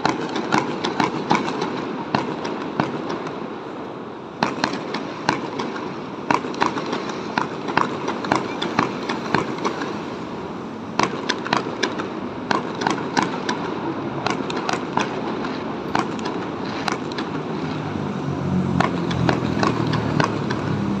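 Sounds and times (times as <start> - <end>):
fireworks bangs and cracks: 0.0 - 3.6, 4.3 - 17.9, 18.8 - 21.0.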